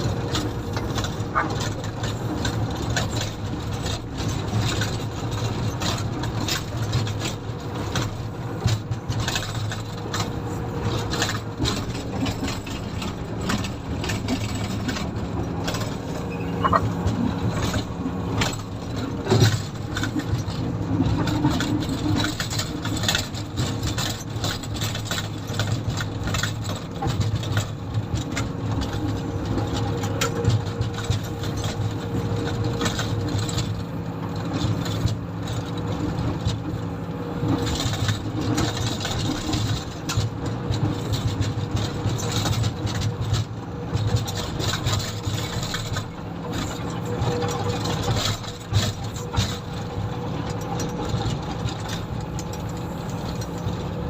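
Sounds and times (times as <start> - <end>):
clatter and rattles: 0.0 - 54.0
diesel engine running: 0.0 - 54.0.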